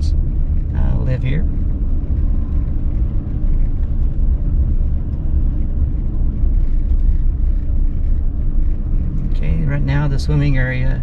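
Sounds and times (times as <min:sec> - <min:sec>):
truck engine and tyre rumble: 0:00.0 - 0:11.0.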